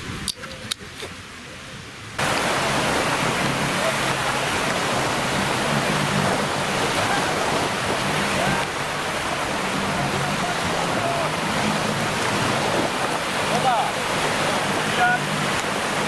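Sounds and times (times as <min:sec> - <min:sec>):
jet ski engine droning: 0:00.0 - 0:16.0
water spray and wind: 0:00.0 - 0:16.0.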